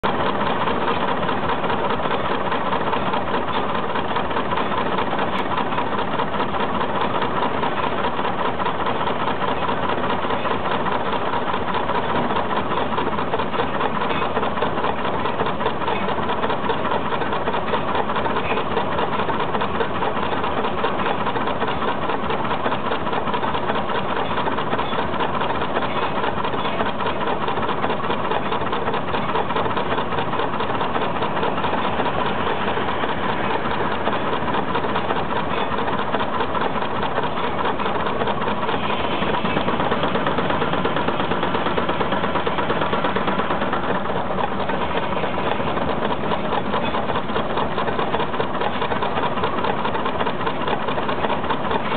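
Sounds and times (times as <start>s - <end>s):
steam engine mechanical clatter: 0.0s - 51.9s.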